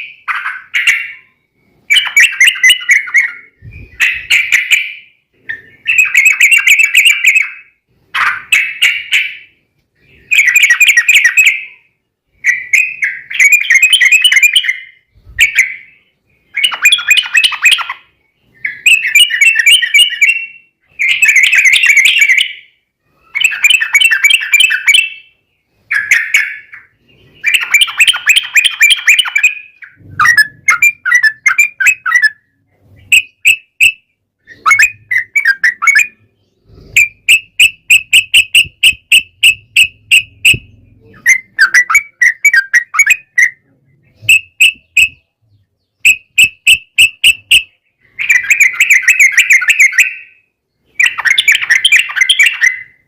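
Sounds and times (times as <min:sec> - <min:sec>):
bird bubbly chattering song: 0:00.0 - 0:09.5, 0:10.1 - 0:22.7, 0:23.3 - 0:25.3, 0:25.9 - 0:43.6, 0:46.0 - 0:53.0.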